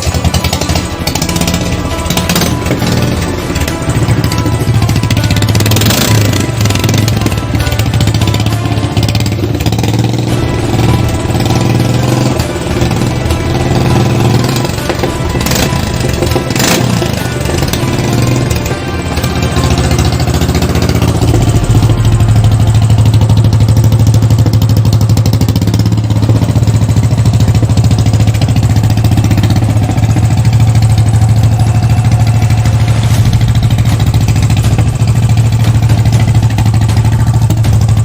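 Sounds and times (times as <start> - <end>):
single-cylinder engine running: 0.0 - 38.0.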